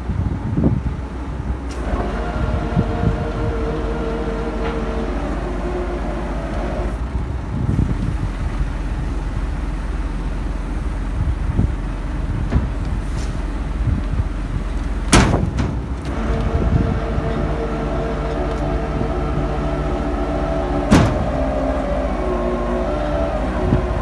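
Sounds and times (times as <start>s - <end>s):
diesel engine running: 0.0s - 24.0s
hydraulic whine: 1.5s - 24.0s.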